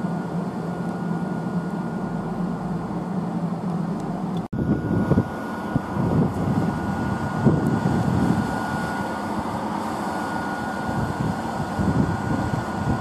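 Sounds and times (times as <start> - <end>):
high whine: 0.0 - 13.0
train equipment hum: 0.0 - 13.0.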